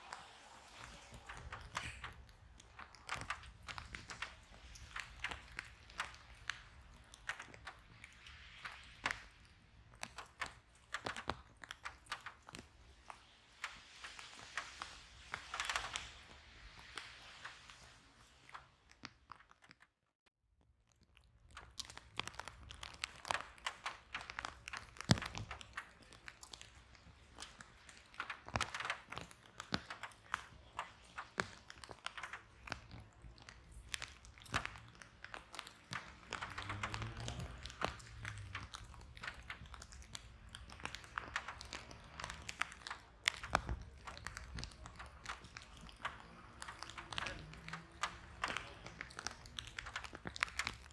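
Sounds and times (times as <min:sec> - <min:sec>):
hiss and rumble of flames: 0:00.0 - 0:19.0, 0:21.8 - 0:50.9
wood fire crackling and popping: 0:00.0 - 0:20.0, 0:20.9 - 0:50.9.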